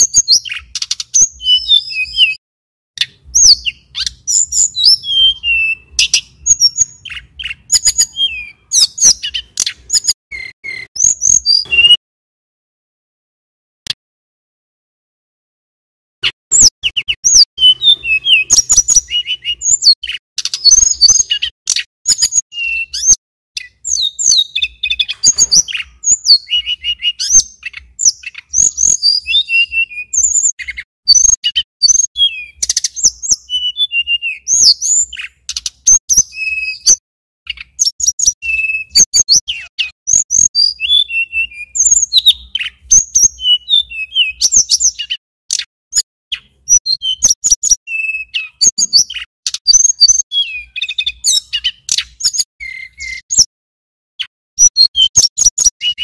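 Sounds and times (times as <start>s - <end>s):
bird singing chirps and trills: 0.0s - 2.4s, 3.0s - 12.0s, 16.2s - 53.5s, 54.2s - 56.0s.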